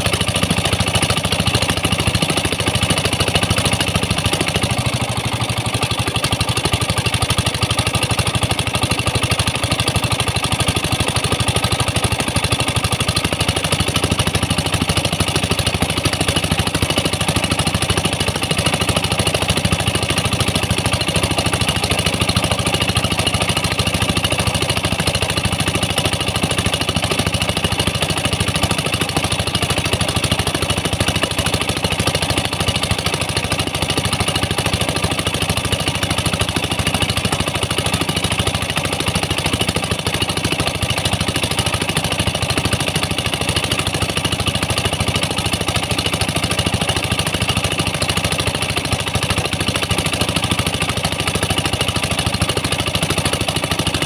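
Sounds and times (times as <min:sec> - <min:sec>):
water pump engine running: 0:00.0 - 0:54.0.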